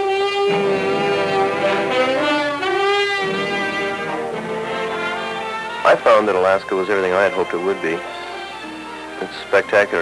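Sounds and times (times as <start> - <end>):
slow melodic title music: 0.5 - 9.2.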